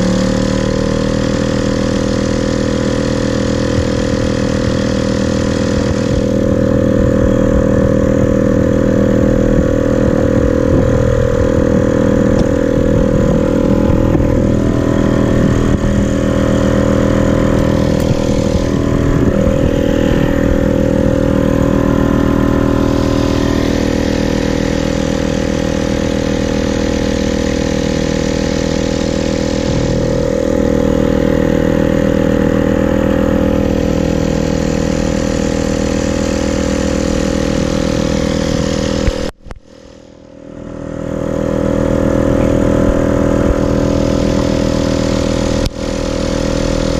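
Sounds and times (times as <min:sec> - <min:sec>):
ultralight engine idling: 0:00.0 - 0:46.9.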